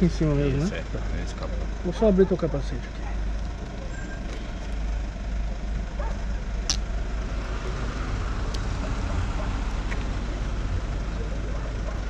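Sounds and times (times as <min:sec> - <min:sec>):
traffic noise: 0:00.0 - 0:12.0
vehicle engine idling: 0:00.0 - 0:12.0.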